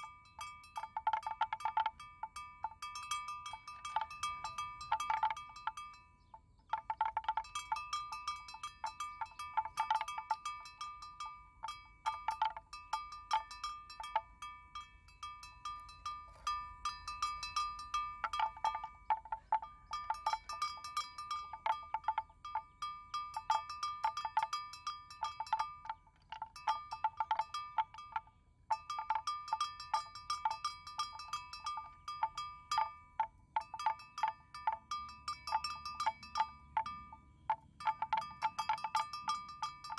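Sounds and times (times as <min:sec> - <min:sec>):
animal bells clanking: 0:00.0 - 0:39.9.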